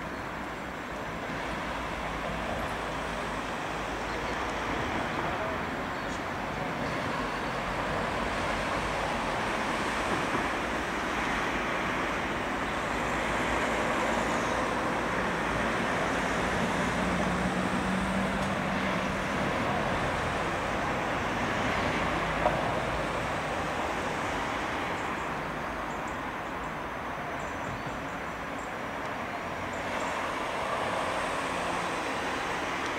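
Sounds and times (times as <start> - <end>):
road traffic: 0.0 - 32.9.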